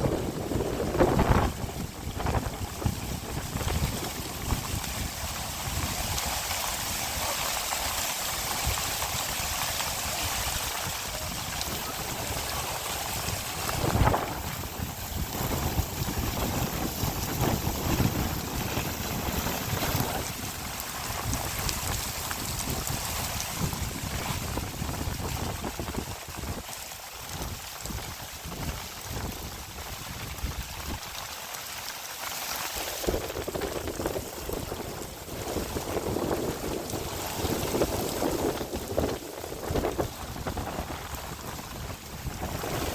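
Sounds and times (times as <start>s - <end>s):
wind buffeting microphone: 0.0s - 26.7s, 33.0s - 42.9s
heavy rain hissing: 0.0s - 42.9s.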